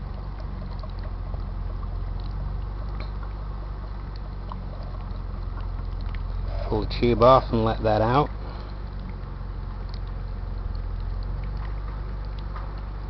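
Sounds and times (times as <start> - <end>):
water bubbling and ticking: 0.0 - 13.0.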